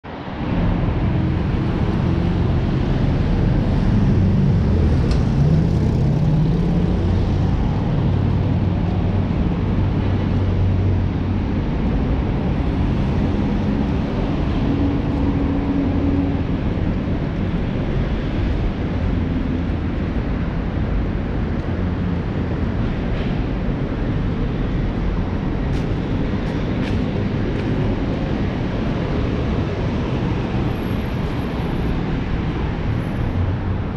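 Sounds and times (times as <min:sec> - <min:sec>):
city street traffic rumble: 0:00.0 - 0:33.9.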